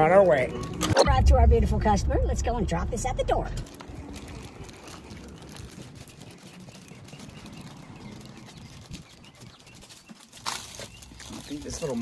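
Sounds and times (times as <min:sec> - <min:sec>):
footsteps walking: 0:02.4 - 0:12.0.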